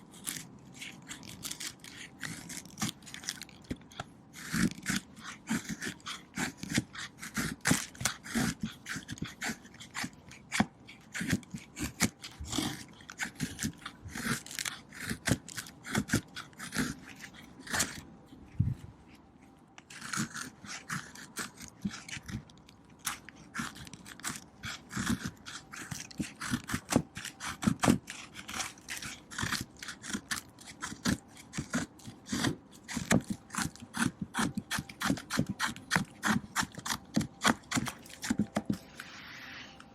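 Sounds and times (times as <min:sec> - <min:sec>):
knife shaving wood: 0:00.0 - 0:39.9.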